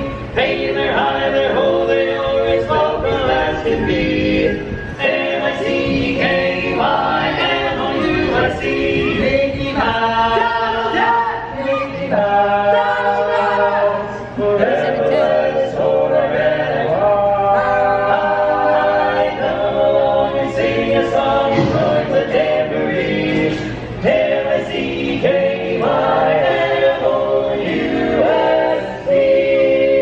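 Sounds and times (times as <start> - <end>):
quartet singing a cappella: 0.0 - 30.0.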